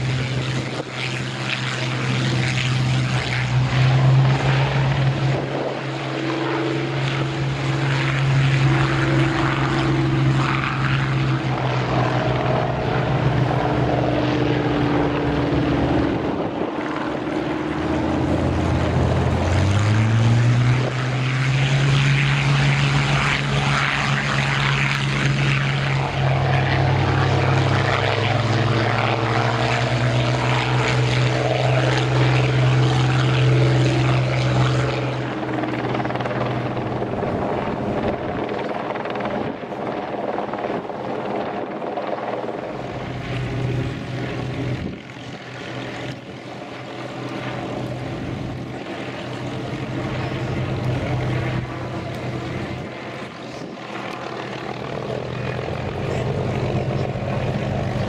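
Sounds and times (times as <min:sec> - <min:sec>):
propeller aircraft engine taxiing: 0:00.0 - 0:58.0.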